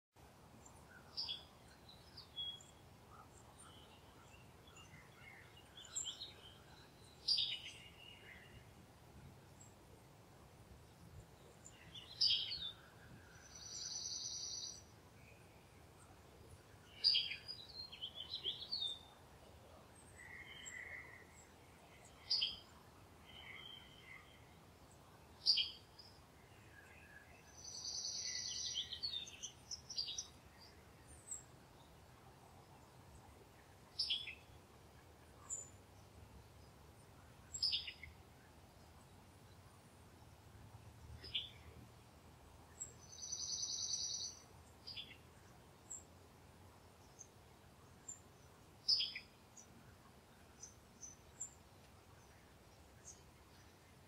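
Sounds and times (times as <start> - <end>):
faint background hiss: 0.2 - 54.0
birds chirping and twittering: 0.6 - 54.0.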